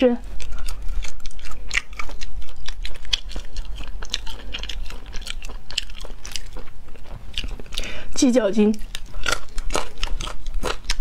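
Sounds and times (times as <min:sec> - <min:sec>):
close chewing crunches: 0:00.0 - 0:11.0.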